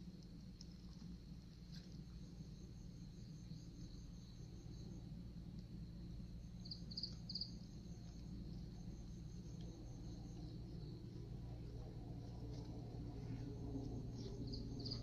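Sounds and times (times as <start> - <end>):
low background hum: 0.0 - 15.0
insect trilling: 0.6 - 15.0.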